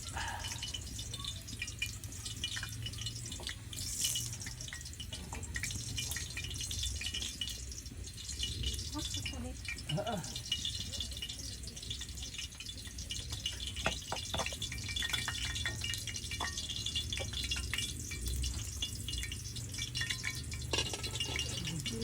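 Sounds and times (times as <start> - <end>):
water dripping and pattering: 0.0 - 22.0.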